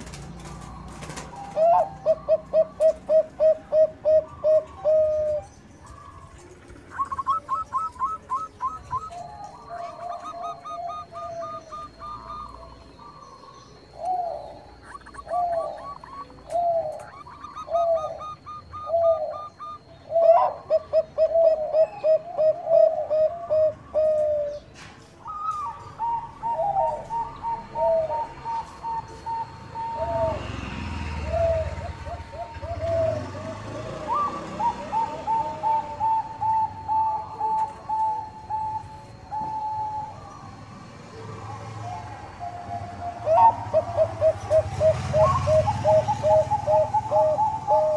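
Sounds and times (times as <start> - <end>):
doves cooing: 0.0 - 47.9.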